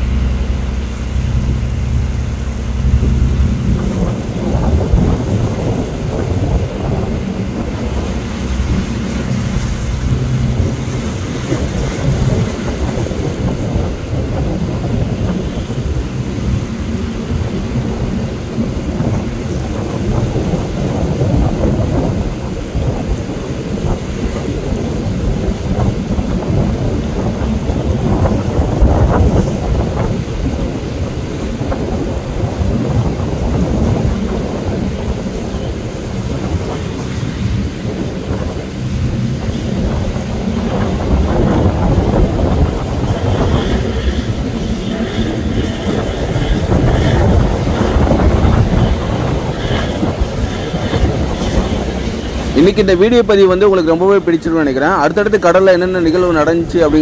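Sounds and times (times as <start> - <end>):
boat engine hum: 0.0 - 57.0
choppy waves rushing: 0.0 - 57.0
wind buffeting microphone: 0.0 - 57.0.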